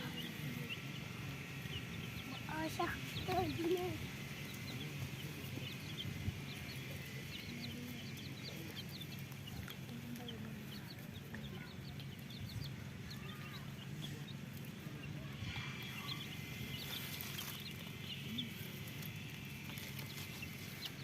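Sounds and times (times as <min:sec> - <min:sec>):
chicks peeping: 0:00.0 - 0:21.0
hen clucking: 0:00.0 - 0:21.0.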